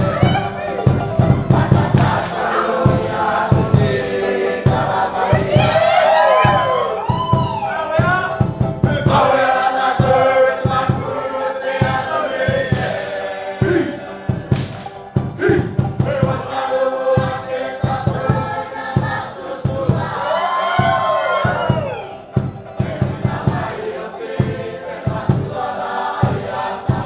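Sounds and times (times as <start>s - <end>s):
choir singing: 0.0s - 27.0s
steady drum beat: 0.0s - 27.0s.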